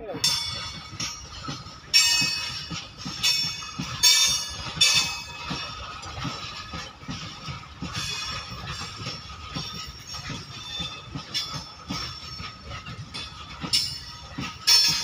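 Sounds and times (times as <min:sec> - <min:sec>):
high-pitched metallic wheel rings: 0:00.0 - 0:15.0
low train rumble: 0:00.0 - 0:15.0
train wheels knocking over rail joints: 0:00.0 - 0:15.0.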